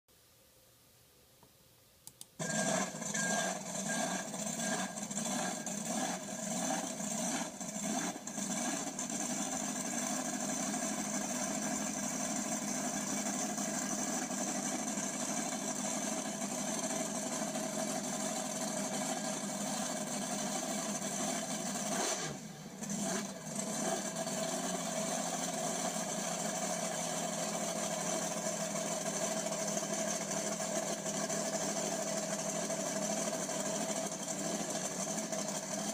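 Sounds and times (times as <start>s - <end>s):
monster truck engine running: 2.4s - 35.9s.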